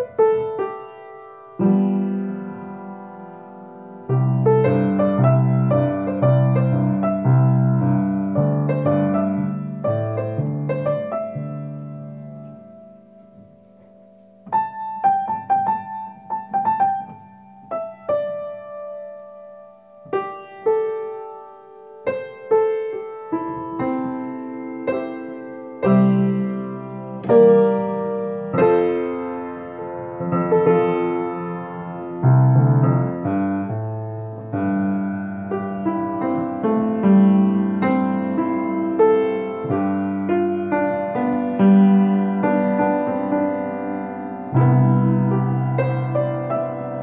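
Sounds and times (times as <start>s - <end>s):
piano chords and melody: 0.0s - 47.0s.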